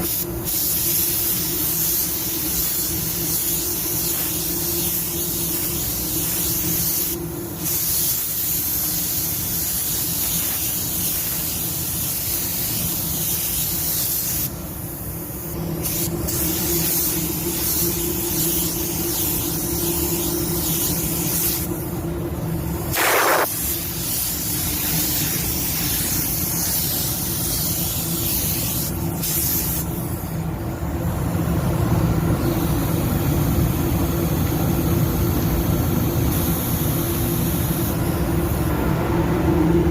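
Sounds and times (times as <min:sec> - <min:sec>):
air spray gun hissing: 0:00.0 - 0:30.5, 0:35.2 - 0:38.7
steady low hum: 0:00.0 - 0:39.9.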